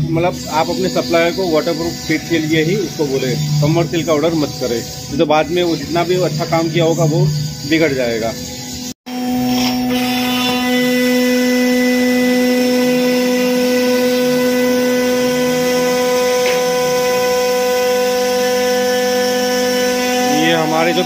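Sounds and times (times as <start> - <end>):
router spindle whine: 0.0 - 21.0.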